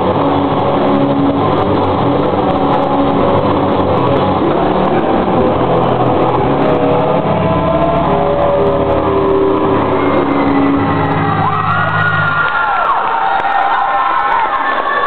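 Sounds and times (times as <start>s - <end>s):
drums: 0.0s - 13.2s
distorted electric guitar: 0.0s - 13.9s.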